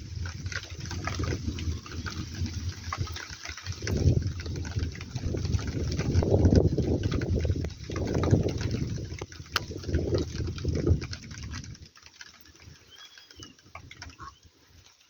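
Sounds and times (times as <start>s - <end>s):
rain crackling and hissing: 0.0s - 15.0s.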